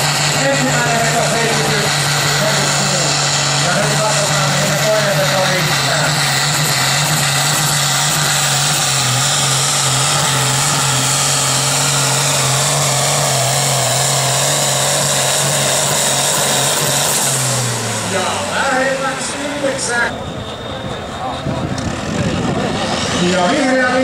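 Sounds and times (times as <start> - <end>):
tractor diesel engine at high revs: 0.0 - 24.0.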